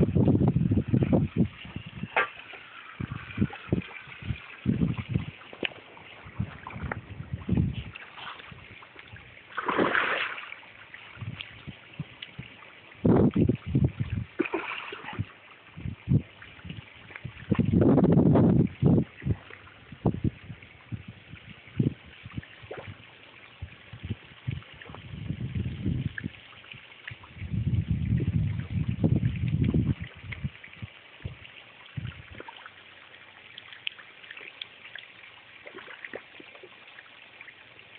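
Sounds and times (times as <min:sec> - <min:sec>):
fish splashing and gurgling: 0:00.0 - 0:17.9, 0:18.6 - 0:37.9
trickling water: 0:00.0 - 0:37.9.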